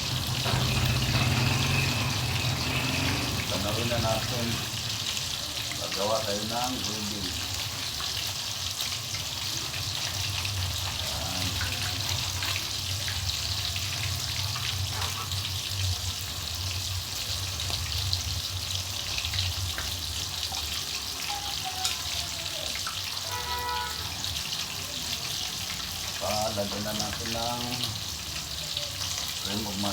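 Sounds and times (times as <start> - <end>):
food sizzling in frying pan: 0.0 - 29.9.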